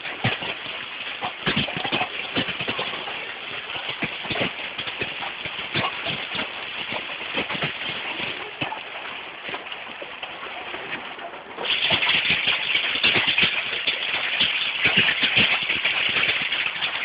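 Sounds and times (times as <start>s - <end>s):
hail hissing down: 0.0s - 17.0s
hailstones clattering: 0.0s - 17.0s.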